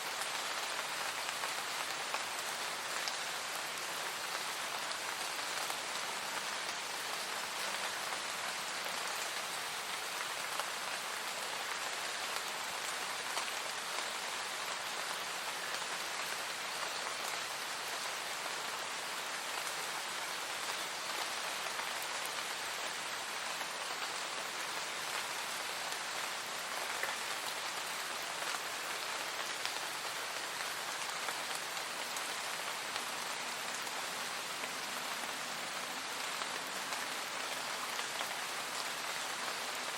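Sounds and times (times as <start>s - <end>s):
rain pattering on surface: 0.0s - 39.9s.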